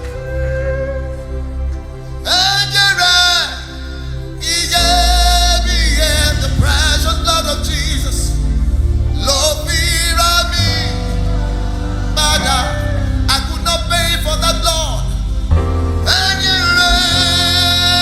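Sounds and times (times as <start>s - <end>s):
sustained instrumental backing: 0.0s - 18.0s
man singing with vibrato: 2.2s - 15.3s, 16.0s - 18.0s.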